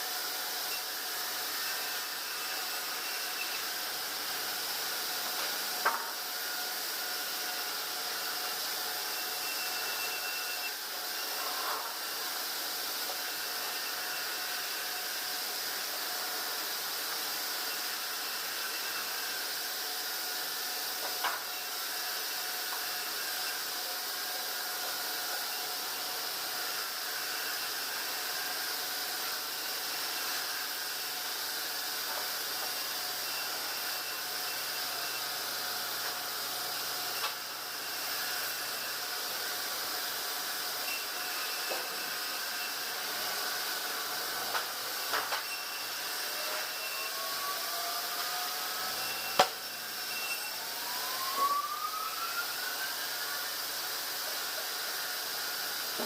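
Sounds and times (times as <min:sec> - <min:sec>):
band saw machinery hiss and hum: 0:00.0 - 0:56.0.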